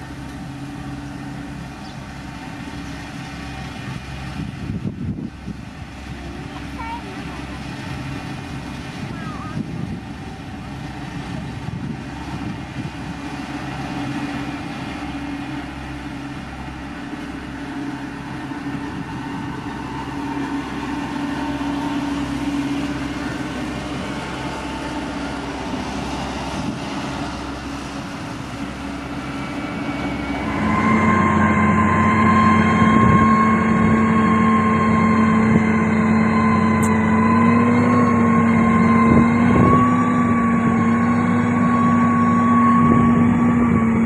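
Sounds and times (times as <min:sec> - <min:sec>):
grader diesel engine with whine: 0:00.0 - 0:44.0
road roller diesel engine: 0:00.0 - 0:44.0.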